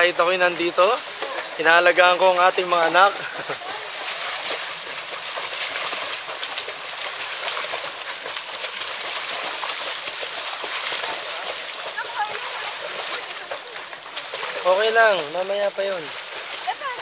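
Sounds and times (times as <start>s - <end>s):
kicking splashes in pool water: 0.0s - 17.0s.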